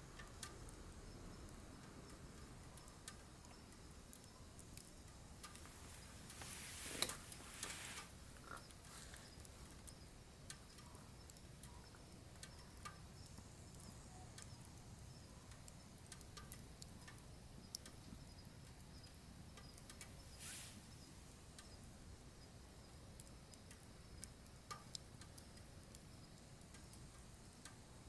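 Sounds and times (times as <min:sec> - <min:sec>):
firewood crackling in a stove: 0:00.0 - 0:28.0
soft hiss: 0:00.0 - 0:28.0.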